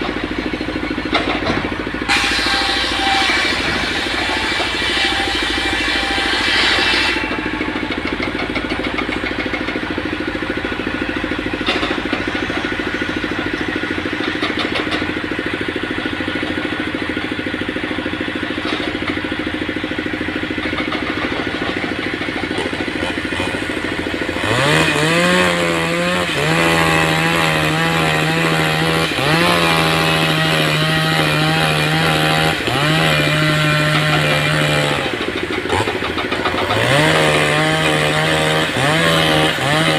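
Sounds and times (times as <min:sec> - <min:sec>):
engine running and revving: 0:00.0 - 0:39.9.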